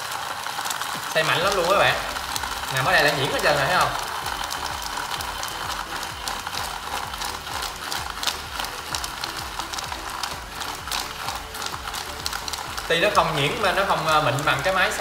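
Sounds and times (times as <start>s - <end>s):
blender motor humming: 0.0s - 15.0s
ice rattling in plastic jar: 0.0s - 15.0s.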